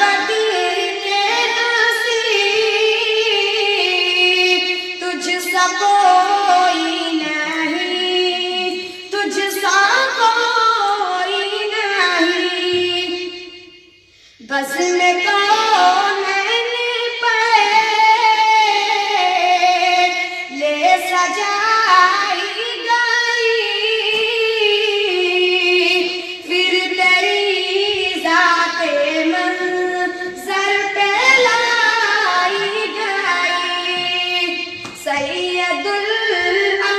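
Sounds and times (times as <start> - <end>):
boy singing into a microphone: 0.0 - 13.6, 14.2 - 36.9.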